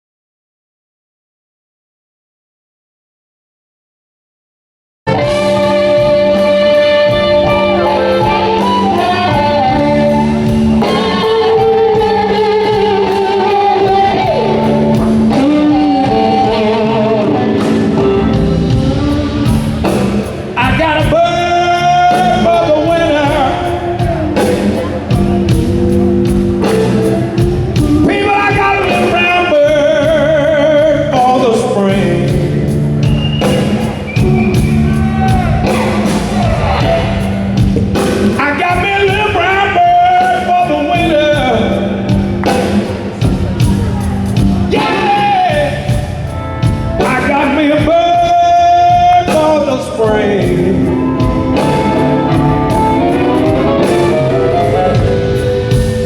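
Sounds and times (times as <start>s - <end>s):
person singing: 5.1s - 32.8s, 33.4s - 56.0s
blues-rock band playing: 5.1s - 56.0s.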